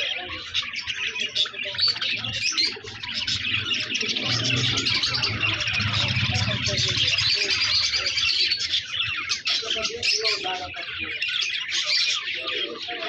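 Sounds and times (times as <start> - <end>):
budgerigars chirping and chattering: 0.0 - 13.0.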